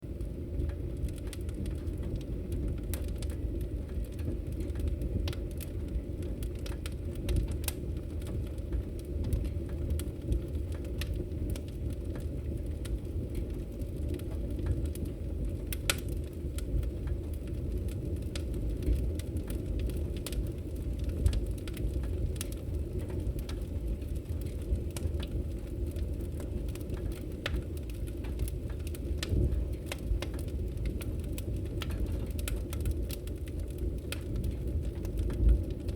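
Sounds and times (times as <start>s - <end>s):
fire crackles and pops: 0.0s - 35.9s
low rumble of flame: 0.0s - 35.9s.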